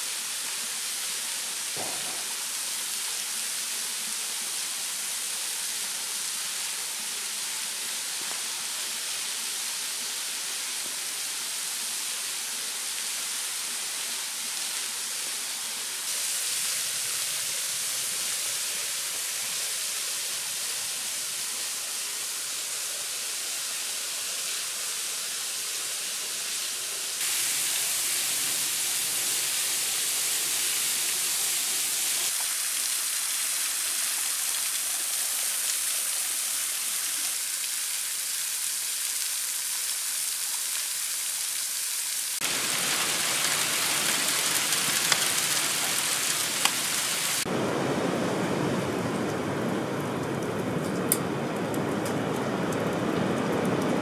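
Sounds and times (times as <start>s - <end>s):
waterfall spilling over rock: 0.0s - 50.3s
falling rain and sleet: 0.0s - 54.0s.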